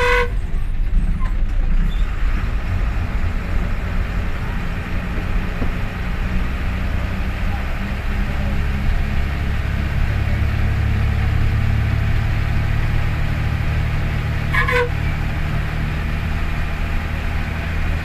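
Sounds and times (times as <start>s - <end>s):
bus diesel engine running: 0.0s - 18.0s
road noise: 0.0s - 18.0s.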